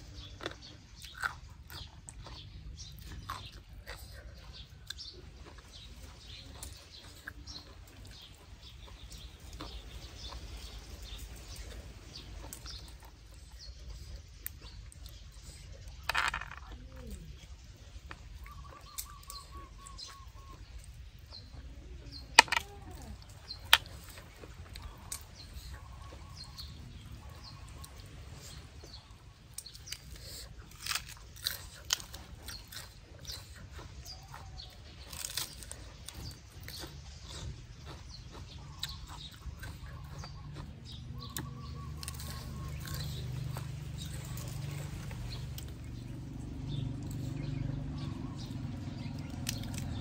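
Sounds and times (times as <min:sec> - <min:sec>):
chewing and crunching lettuce: 0:00.0 - 0:50.0.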